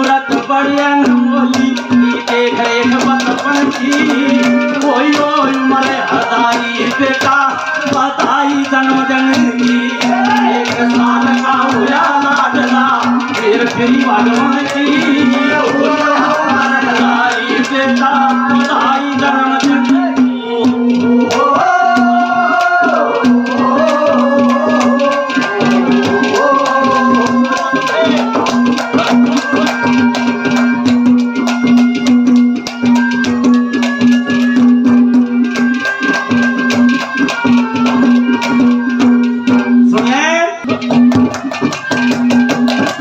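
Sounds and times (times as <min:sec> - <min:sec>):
folk melody instrument: 0:00.0 - 0:43.0
hand drum: 0:00.0 - 0:43.0
jingling percussion: 0:00.0 - 0:43.0.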